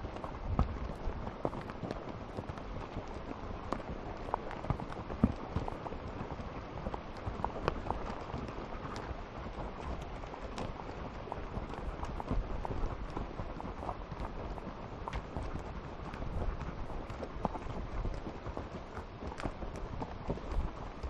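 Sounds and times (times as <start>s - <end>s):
hoof thuds: 0.1s - 21.0s.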